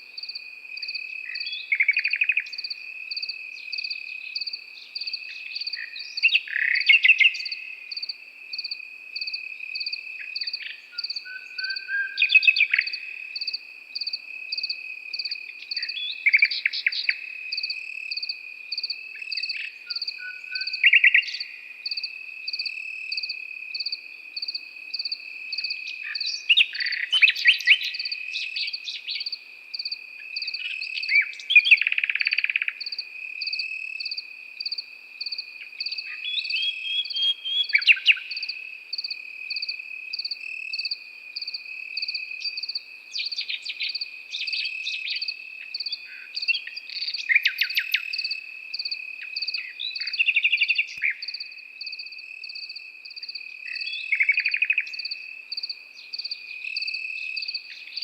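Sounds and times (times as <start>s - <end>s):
cricket chirping: 0.0s - 58.0s
nightingale singing: 0.0s - 58.0s
cricket trilling: 0.2s - 58.0s.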